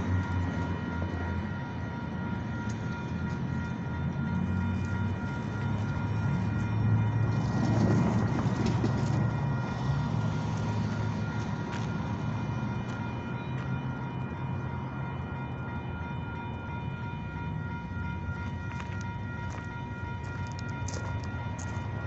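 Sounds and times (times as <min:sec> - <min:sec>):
diesel locomotive engine drone: 0:00.0 - 0:22.0
road vehicle passing: 0:00.0 - 0:22.0.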